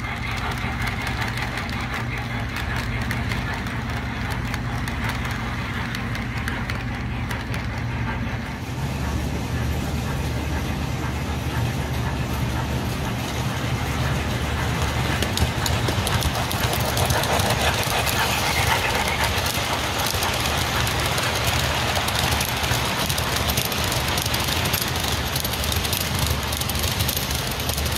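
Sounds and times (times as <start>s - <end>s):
model train wheels and motor rumbling: 0.0s - 27.9s
rattling hiss of freight cars: 0.0s - 27.9s.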